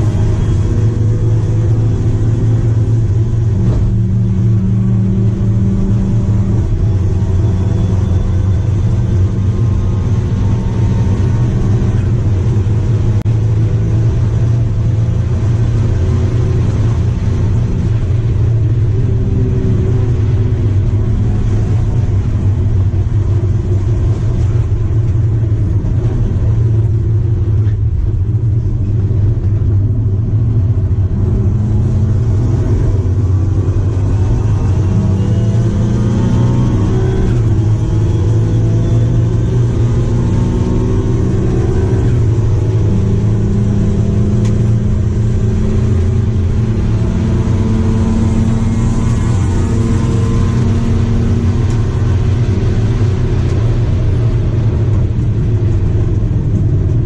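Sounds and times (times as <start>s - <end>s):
race car engine running hard: 0.0s - 57.0s
road and wind noise: 0.0s - 57.0s.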